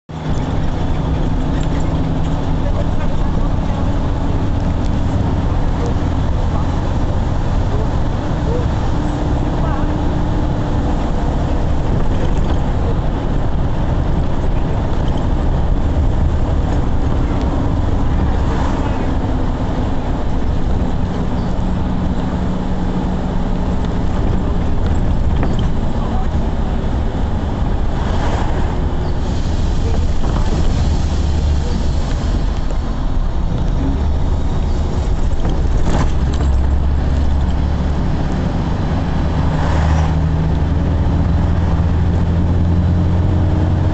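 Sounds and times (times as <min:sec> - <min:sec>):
motor vehicle running: 0:00.0 - 0:43.9.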